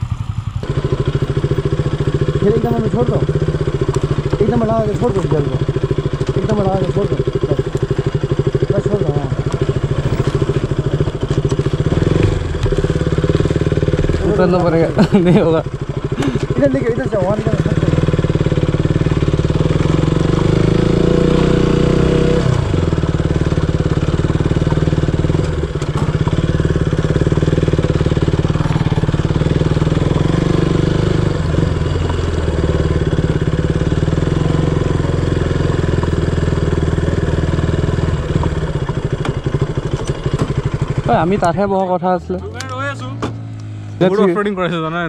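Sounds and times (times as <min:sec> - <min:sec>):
motorcycle engine at low revs: 0:00.0 - 0:45.0.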